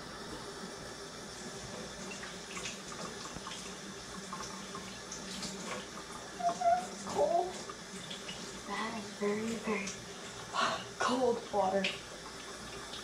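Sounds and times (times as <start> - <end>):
kitchen tap running into sink: 1.3 - 13.0.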